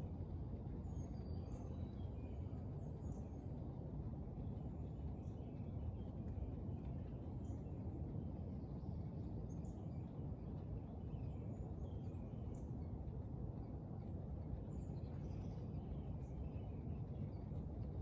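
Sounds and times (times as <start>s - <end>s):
low outdoor background rumble: 0.0s - 18.0s.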